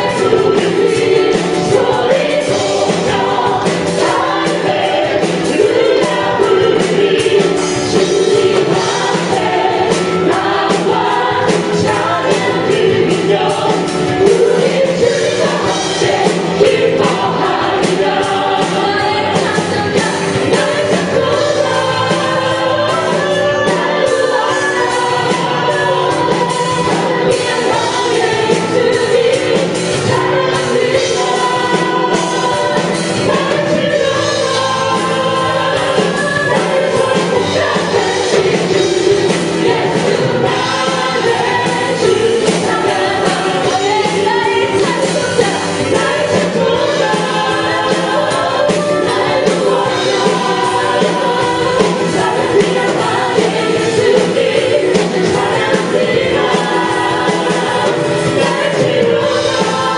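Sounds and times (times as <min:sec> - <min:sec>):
congregation singing: 0:00.0 - 0:59.9
praise band playing: 0:00.0 - 0:59.9.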